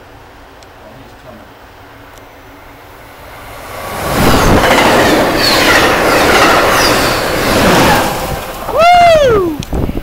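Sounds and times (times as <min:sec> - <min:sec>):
train passing at high speed: 0:00.0 - 0:10.0.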